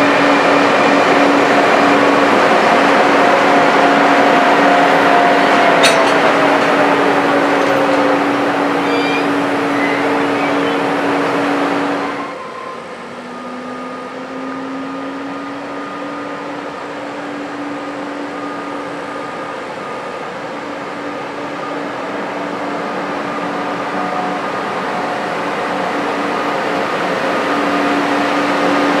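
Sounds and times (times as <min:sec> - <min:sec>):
electric locomotive humming: 0:00.0 - 0:29.0
freight train rolling past: 0:00.0 - 0:29.0.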